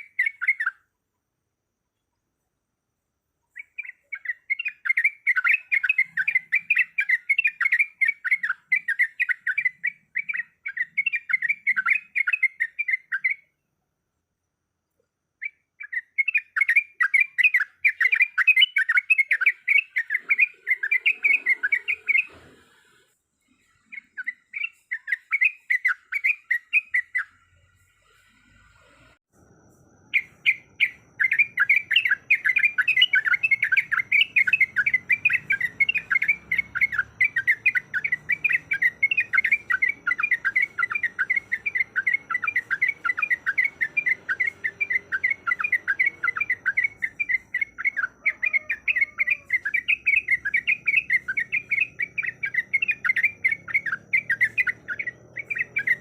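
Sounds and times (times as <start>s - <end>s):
bird chattering song: 0.0s - 0.9s, 3.5s - 13.5s, 15.4s - 22.6s, 23.5s - 28.4s, 30.0s - 56.0s.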